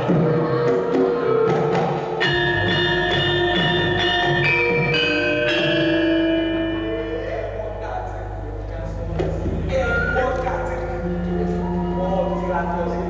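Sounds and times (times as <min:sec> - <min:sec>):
gamelan music: 0:00.0 - 0:13.0.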